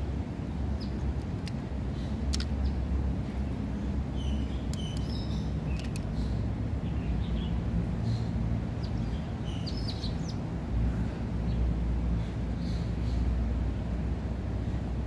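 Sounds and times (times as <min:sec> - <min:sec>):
steady low rumble: 0:00.0 - 0:15.0
birds chirping: 0:00.5 - 0:01.2, 0:01.8 - 0:14.0.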